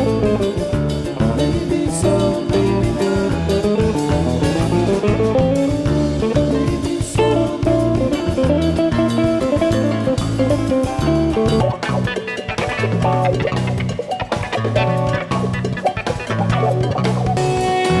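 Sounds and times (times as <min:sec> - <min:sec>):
bass guitar: 0:00.0 - 0:18.0
drum kit: 0:00.0 - 0:18.0
electric guitar melodic lines: 0:00.0 - 0:18.0.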